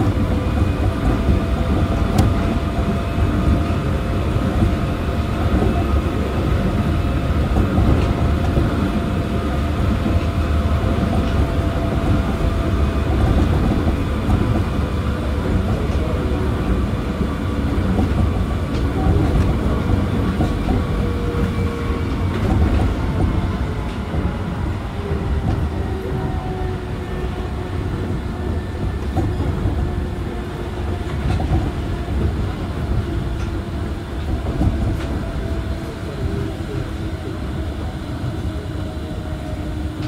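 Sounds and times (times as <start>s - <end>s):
monorail running rumble: 0.0s - 40.0s.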